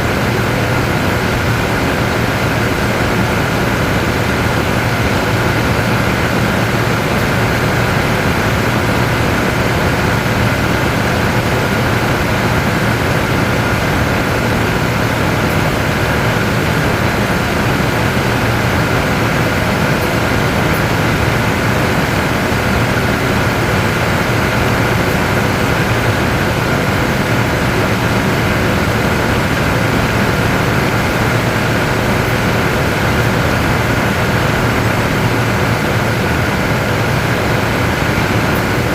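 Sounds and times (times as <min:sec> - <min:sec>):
jet turbine noise: 0:00.0 - 0:38.9.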